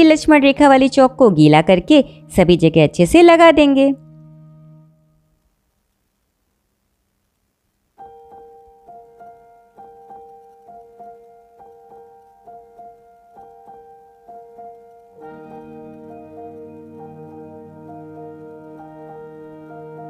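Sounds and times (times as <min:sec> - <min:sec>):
piano music: 0:00.0 - 0:05.3, 0:08.0 - 0:20.0.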